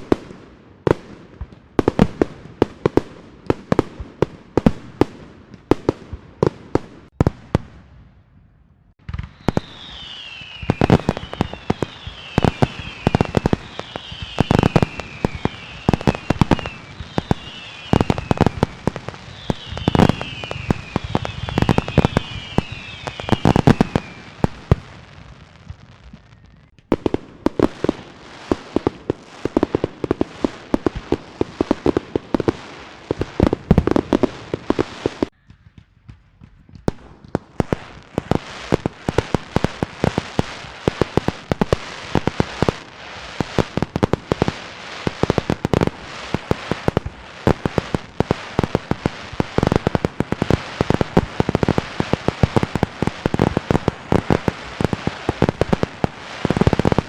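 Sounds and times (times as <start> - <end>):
firecrackers popping: 0.0 - 7.9, 8.9 - 57.0.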